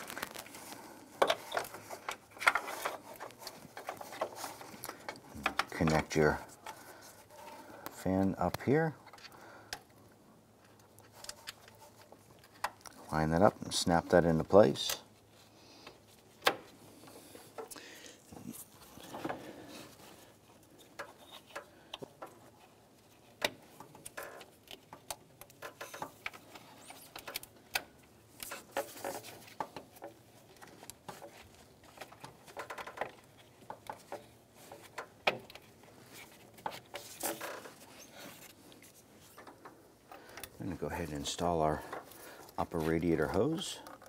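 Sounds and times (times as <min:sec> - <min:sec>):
light rustling against hoses: 0:00.0 - 0:44.0.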